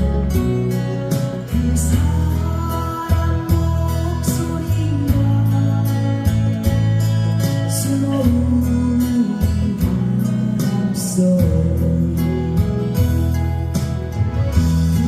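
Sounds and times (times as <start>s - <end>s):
acoustic guitar song: 0.0s - 15.0s
low bass notes: 0.0s - 15.0s.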